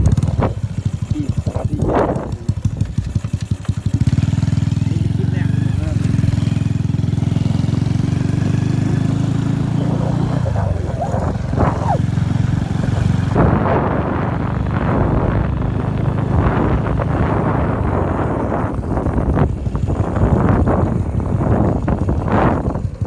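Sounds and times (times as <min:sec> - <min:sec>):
motorcycle engine running: 0:00.0 - 0:23.0
wind buffeting microphone: 0:00.0 - 0:23.0.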